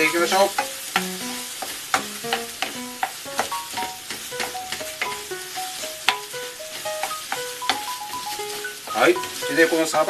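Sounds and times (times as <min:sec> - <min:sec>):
food sizzling: 0:00.0 - 0:10.0
light background music: 0:00.0 - 0:10.0
wooden spatula knocking a pan: 0:00.0 - 0:10.0.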